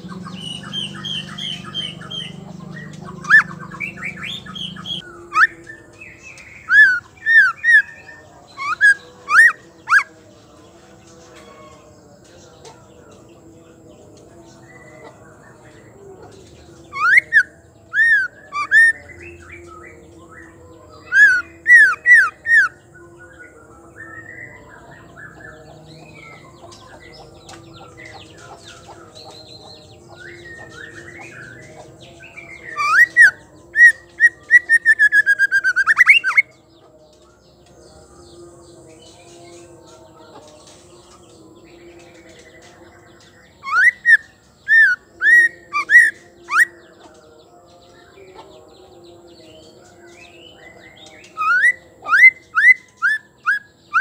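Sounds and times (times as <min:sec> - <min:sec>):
soft bird twittering: 0:00.0 - 0:47.4, 0:49.5 - 0:54.0.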